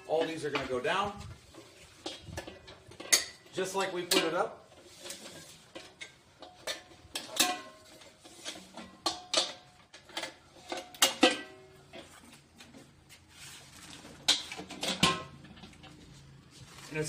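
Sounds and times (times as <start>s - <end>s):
metal fire pit legs clanking: 0.0s - 13.0s, 13.7s - 16.4s.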